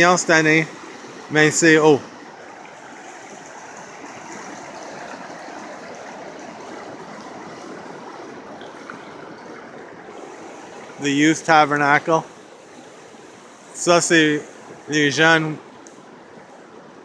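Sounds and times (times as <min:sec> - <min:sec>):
river rushing over rocks: 0:00.0 - 0:15.2.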